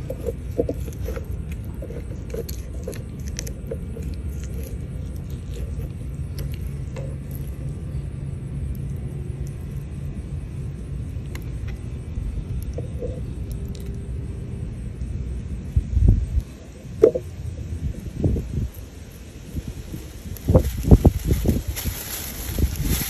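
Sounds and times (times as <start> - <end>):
faint engine hum: 0.0 - 23.0
low outdoor rumble: 0.0 - 23.0.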